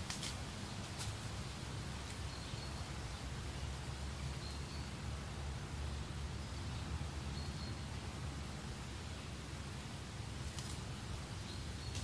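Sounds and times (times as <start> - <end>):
steady wind: 0.0 - 12.0.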